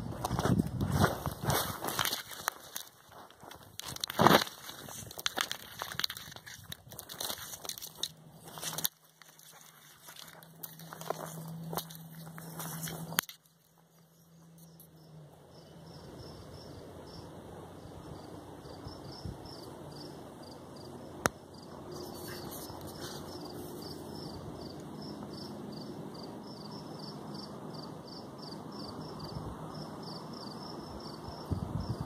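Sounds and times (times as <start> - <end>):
crickets chirping: 0.0 - 32.0
outdoor background noise: 0.0 - 32.0.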